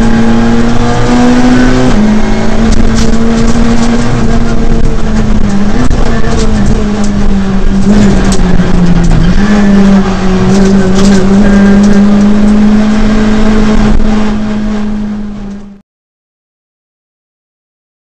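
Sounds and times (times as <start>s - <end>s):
car engine at high revs: 0.0s - 15.8s
tyre and road noise: 0.0s - 15.8s.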